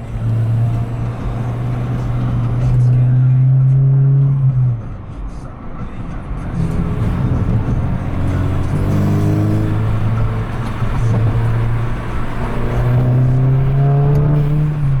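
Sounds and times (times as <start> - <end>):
loud car engine through open exhaust: 0.0 - 5.4, 6.3 - 15.0.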